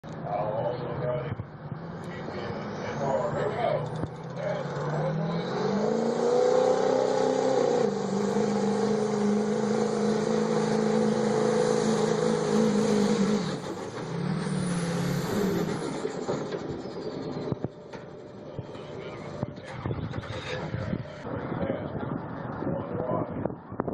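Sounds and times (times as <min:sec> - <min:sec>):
diesel truck engine at full throttle: 0:00.0 - 0:23.9.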